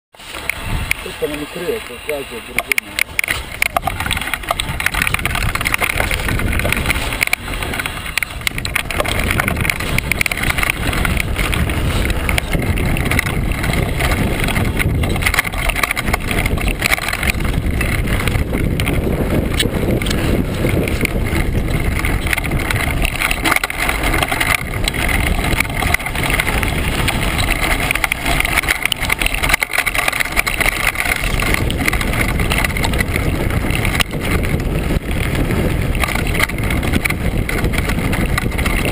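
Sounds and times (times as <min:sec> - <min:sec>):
tyres crunching over gravel: 0:00.2 - 0:38.9
wind rush on microphone: 0:00.2 - 0:38.9.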